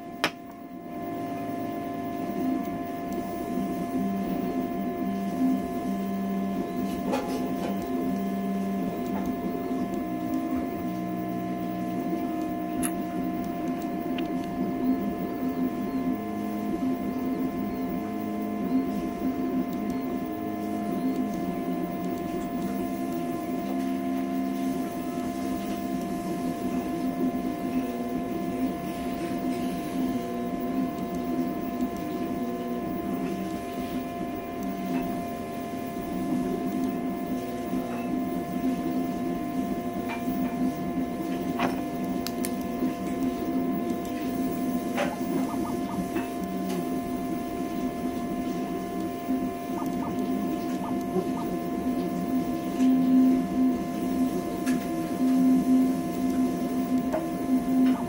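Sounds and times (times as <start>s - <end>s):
steady high whine: 0.0s - 58.0s
stepper motors humming: 0.0s - 58.0s.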